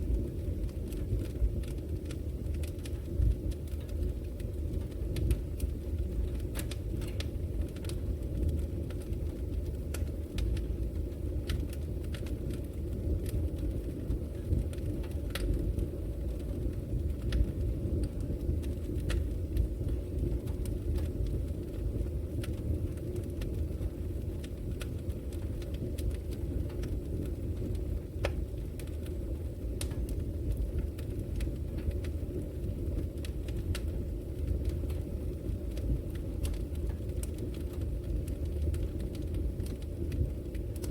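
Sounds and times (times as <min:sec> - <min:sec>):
fire crackling and popping: 0:00.0 - 0:40.9
roar of flames: 0:00.0 - 0:40.9.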